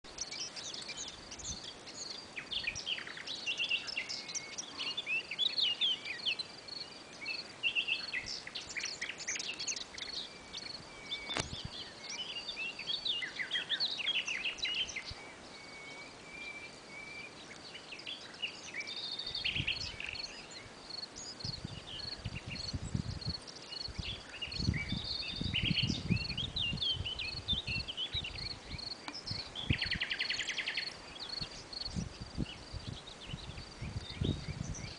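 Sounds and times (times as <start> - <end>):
birds chirping and trilling: 0.1 - 34.9
insect chirping: 0.1 - 34.9.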